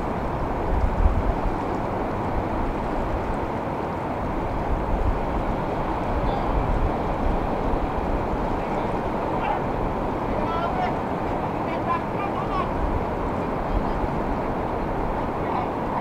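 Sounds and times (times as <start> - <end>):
ocean surf rushing: 0.0 - 16.0
wind rumble on microphone: 0.0 - 16.0.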